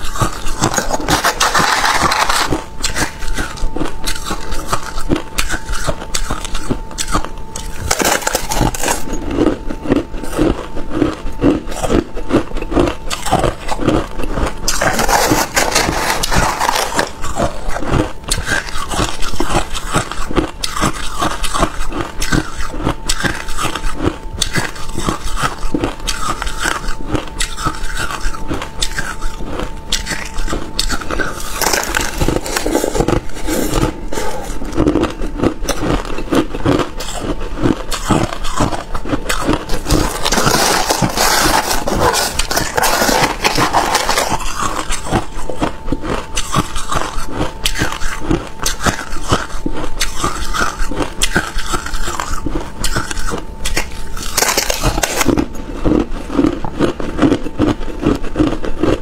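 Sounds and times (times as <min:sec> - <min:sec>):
metal spoon scraping ice: 0:00.0 - 0:09.2, 0:13.1 - 0:34.8, 0:35.6 - 0:55.4
crushed ice being chewed: 0:00.0 - 0:59.0
faint steady hum: 0:00.0 - 0:59.0.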